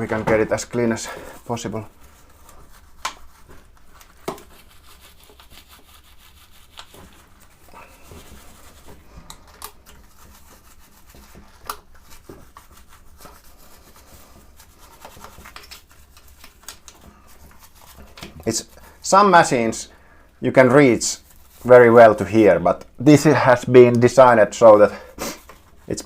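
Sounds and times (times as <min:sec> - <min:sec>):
rubbing and scrubbing parts: 0:00.0 - 0:26.0.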